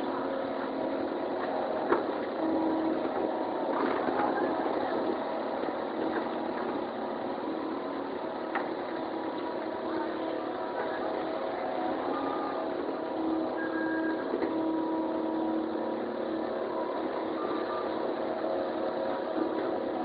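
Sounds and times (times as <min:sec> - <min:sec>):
heavy machinery engine running: 0:00.0 - 0:20.0.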